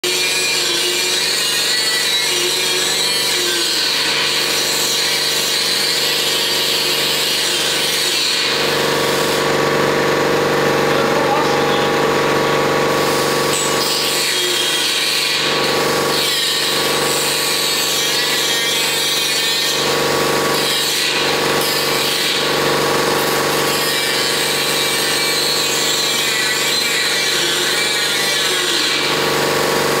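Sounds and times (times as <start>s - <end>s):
angle grinder cutting steel: 0.0s - 30.0s.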